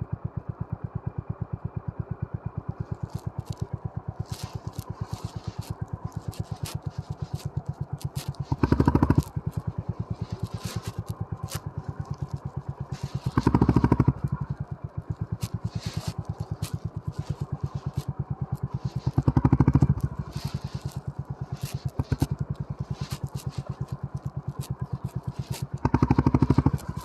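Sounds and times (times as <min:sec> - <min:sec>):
motorcycle engine running: 0:00.0 - 0:27.0
sharp clicks and rattles: 0:02.7 - 0:27.0.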